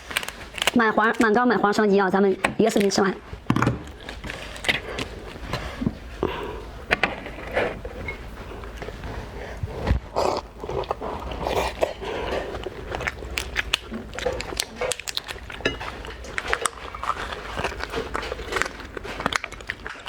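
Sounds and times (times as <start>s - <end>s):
wet chewing and crunching: 0.0s - 1.5s, 3.7s - 20.0s.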